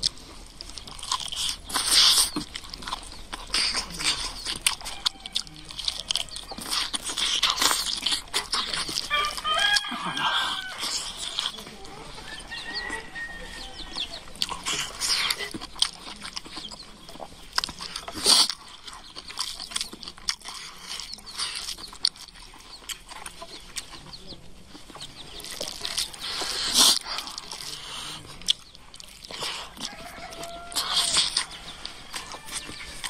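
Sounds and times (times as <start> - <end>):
chewing and lip-smacking: 0.0 - 33.0
chickens clucking: 0.0 - 33.0.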